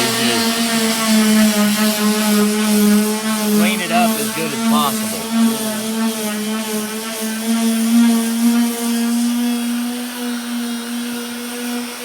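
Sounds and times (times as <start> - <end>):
electric sander on sheet metal: 0.0 - 12.0.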